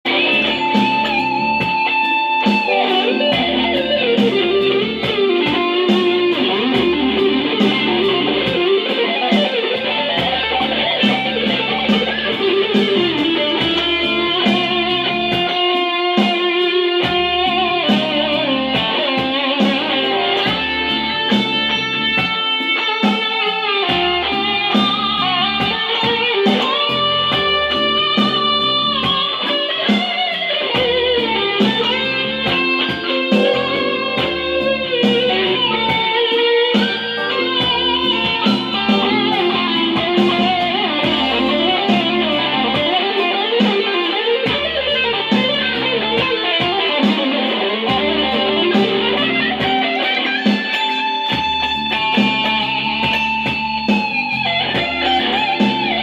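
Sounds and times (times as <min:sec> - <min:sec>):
electric guitar lead: 0:00.0 - 0:56.0
steady beat with bass: 0:00.0 - 0:56.0.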